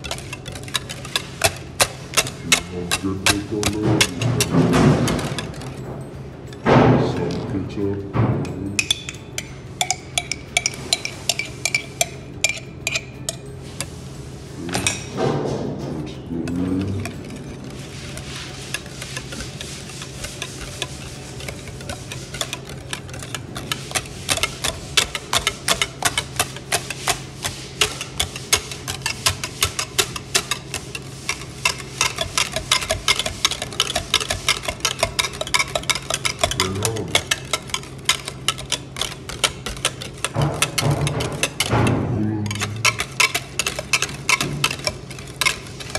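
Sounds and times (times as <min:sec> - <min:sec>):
utensil clicking against bowl: 0:00.0 - 0:05.8, 0:08.8 - 0:14.0, 0:16.4 - 0:45.9.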